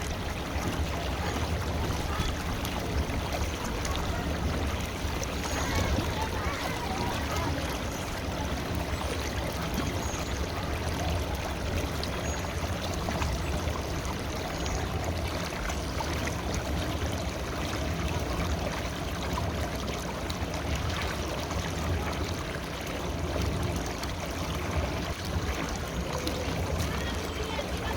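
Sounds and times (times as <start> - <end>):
river flowing: 0.0 - 27.9.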